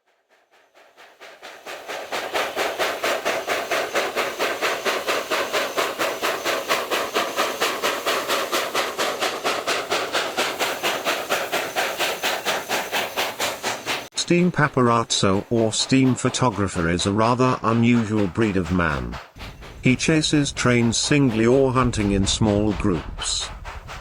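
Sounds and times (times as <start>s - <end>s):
steam hiss: 0.0s - 24.0s
steam locomotive chuffing: 0.0s - 24.0s.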